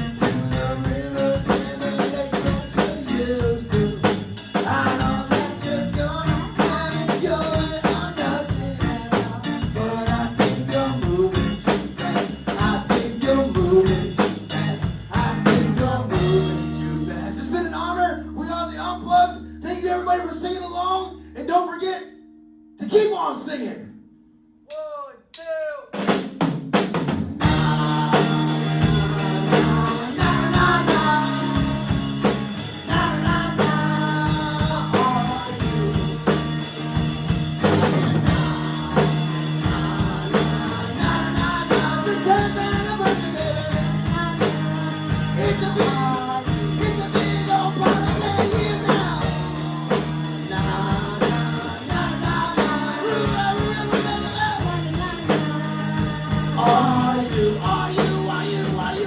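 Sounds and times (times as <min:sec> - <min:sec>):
drum kit beat: 0:00.0 - 0:17.2, 0:25.4 - 0:59.0
person singing: 0:00.0 - 0:22.0, 0:27.4 - 0:36.5, 0:38.3 - 0:59.0
guitar: 0:00.0 - 0:24.6, 0:27.0 - 0:59.0
bass: 0:00.0 - 0:24.7, 0:26.0 - 0:59.0.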